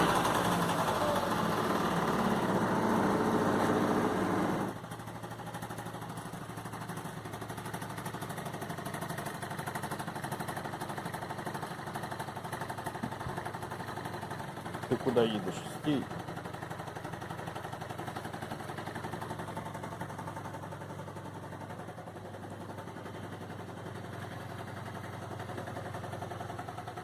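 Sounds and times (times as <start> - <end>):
two-stroke scooter engine: 0.0 - 27.0.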